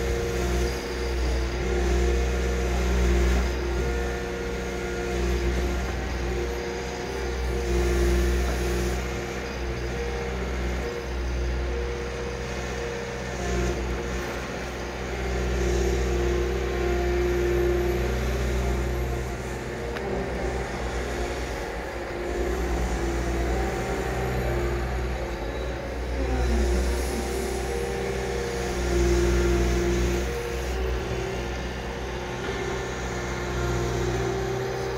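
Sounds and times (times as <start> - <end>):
excavator engine and hydraulics drone: 0.0 - 34.9.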